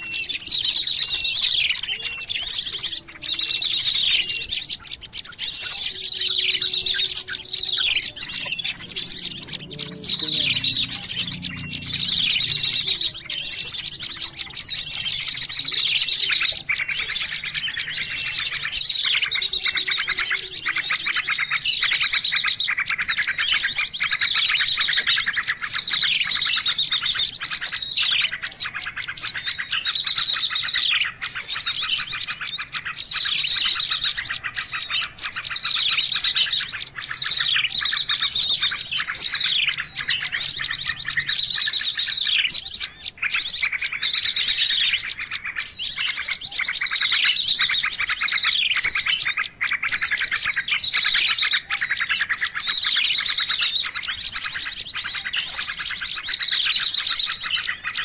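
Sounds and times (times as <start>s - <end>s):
small songbirds chirping: 0.0s - 58.0s.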